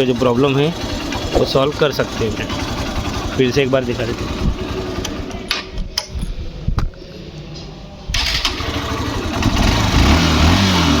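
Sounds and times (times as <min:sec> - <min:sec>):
motorcycle engine starting and running: 0:00.0 - 0:06.1, 0:08.1 - 0:11.0.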